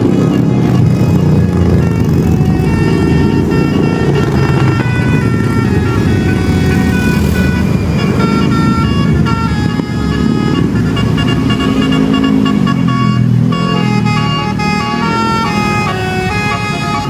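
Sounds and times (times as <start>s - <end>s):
bus engine running: 0.0s - 17.0s
multi-note air horn melody: 0.0s - 17.0s.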